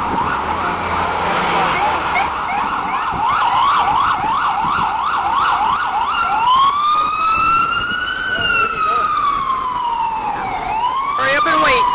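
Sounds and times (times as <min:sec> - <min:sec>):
emergency vehicle siren: 0:00.0 - 0:11.9
traffic noise: 0:00.0 - 0:11.9.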